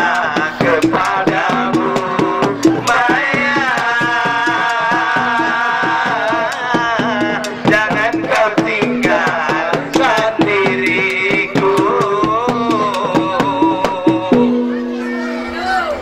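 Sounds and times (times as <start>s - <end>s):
hand drums beating: 0.0s - 15.0s
long held melody line: 0.0s - 16.0s.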